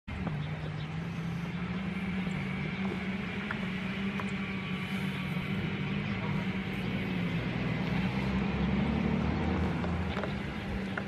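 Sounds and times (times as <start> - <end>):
highway traffic drone: 0.1 - 11.0
low wavering engine hum: 0.1 - 11.0.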